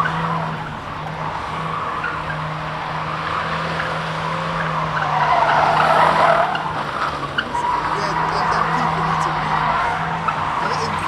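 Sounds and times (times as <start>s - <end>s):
car engine at high revs: 0.0s - 11.0s
tyres squealing: 0.0s - 11.0s.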